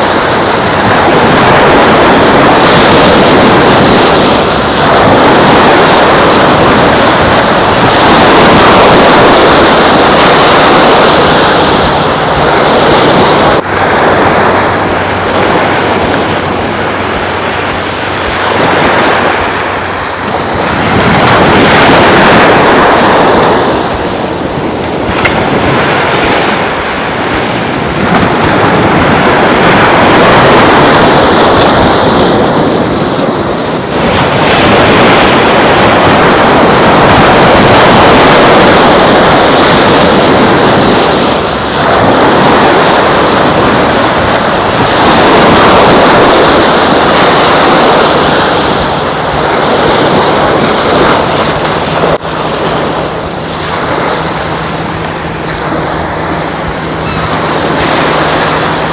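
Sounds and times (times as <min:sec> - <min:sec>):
ocean surf washing onto beach: 0:00.0 - 0:58.9
wind buffeting microphone: 0:00.0 - 0:58.9.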